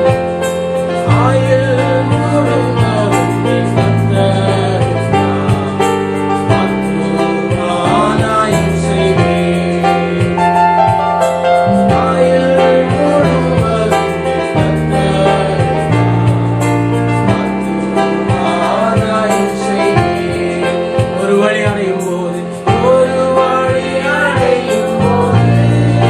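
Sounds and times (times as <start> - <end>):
keyboard: 0.0 - 26.0
steady bass line: 0.0 - 26.0
voices singing: 1.0 - 26.0.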